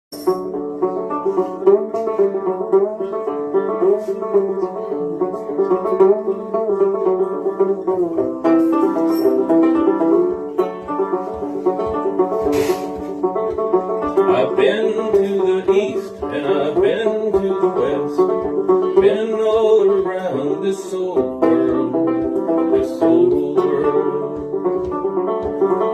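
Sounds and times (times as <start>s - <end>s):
banjo plucking: 0.1s - 25.9s.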